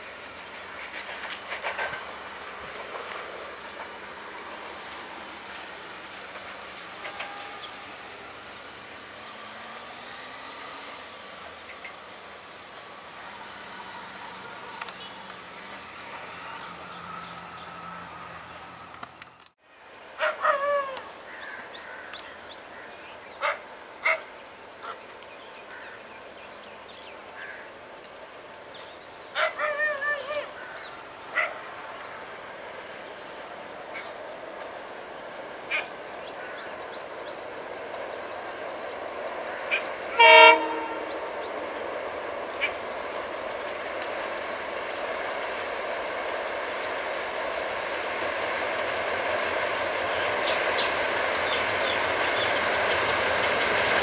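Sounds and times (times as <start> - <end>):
distant diesel train rumble: 0.0 - 54.0
insects droning: 0.0 - 54.0.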